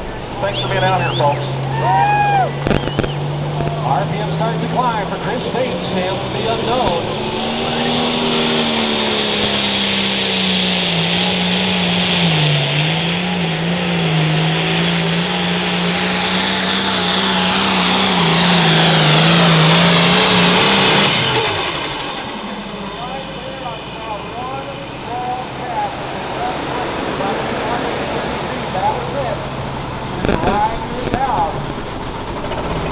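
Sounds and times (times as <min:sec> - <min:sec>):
tractor engine at full throttle: 0:00.0 - 0:32.9.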